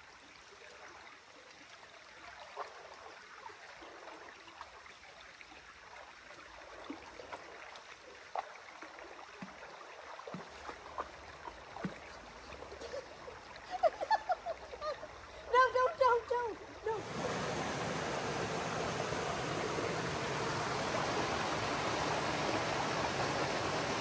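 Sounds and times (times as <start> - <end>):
creek babbling over stones: 0.0 - 24.0
small splashes: 0.6 - 24.0.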